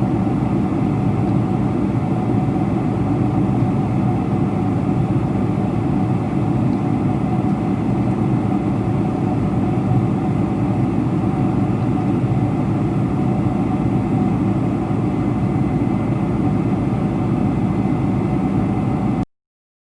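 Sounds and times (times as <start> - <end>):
jet engines droning: 0.0 - 19.2.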